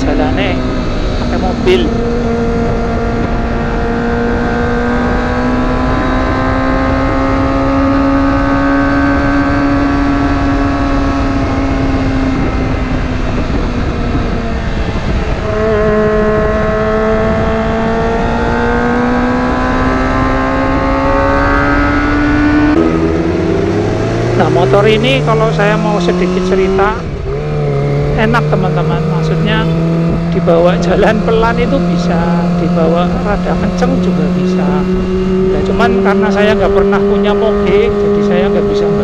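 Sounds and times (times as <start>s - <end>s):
low wind rumble: 0.0s - 39.0s
motorcycle engine at high revs: 0.0s - 39.0s.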